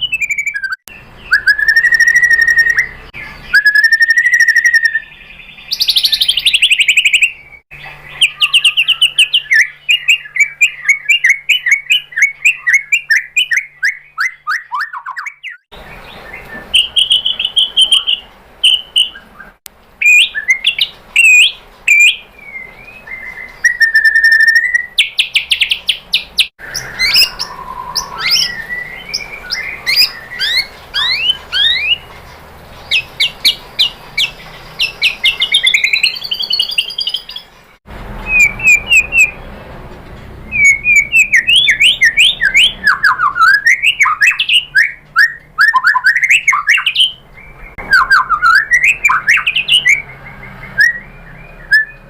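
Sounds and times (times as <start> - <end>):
bird singing trills and whistles: 0.0 - 39.5, 40.4 - 52.0.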